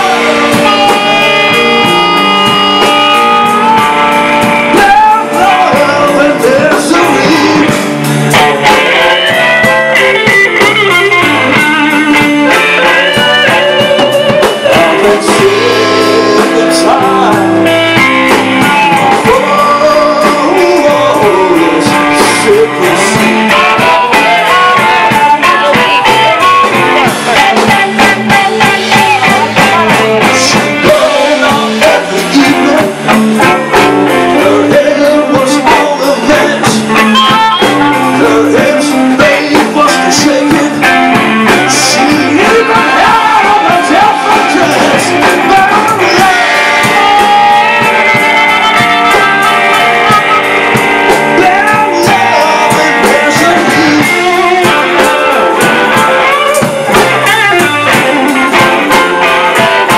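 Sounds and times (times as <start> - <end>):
blues band playing: 0.0 - 59.9
electric guitar: 0.0 - 59.9
man singing: 0.0 - 59.9.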